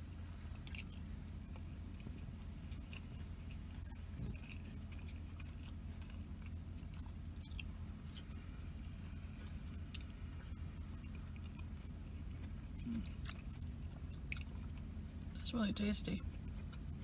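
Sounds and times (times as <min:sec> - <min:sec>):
chewing food: 0:00.0 - 0:17.0
low hum: 0:00.0 - 0:17.0.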